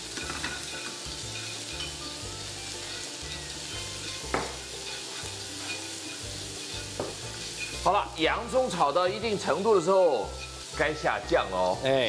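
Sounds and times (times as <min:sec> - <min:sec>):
onions sizzling in a wok: 0:00.0 - 0:12.0.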